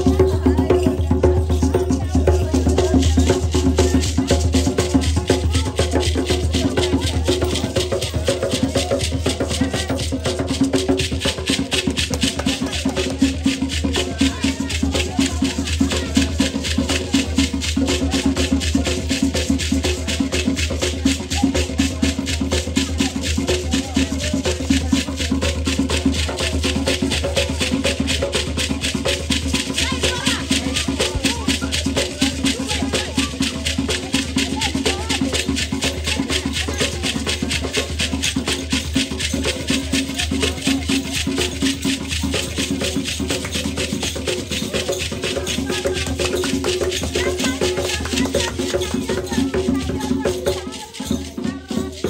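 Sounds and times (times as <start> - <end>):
hand drums: 0.0 - 52.0
shaken rattles: 0.0 - 52.0.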